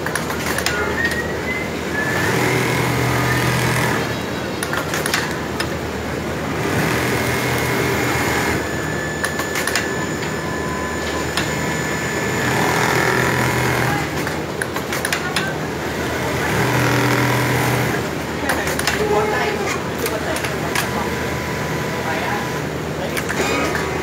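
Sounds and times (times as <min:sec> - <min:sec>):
sewing machine whine and needle chatter: 0:00.2 - 0:05.2, 0:06.4 - 0:19.4, 0:20.0 - 0:24.0.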